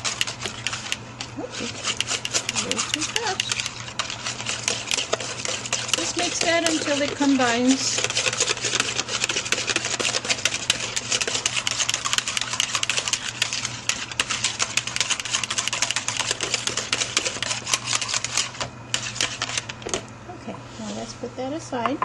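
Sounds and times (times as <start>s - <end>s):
whisk clicking against pot: 0.0s - 20.0s.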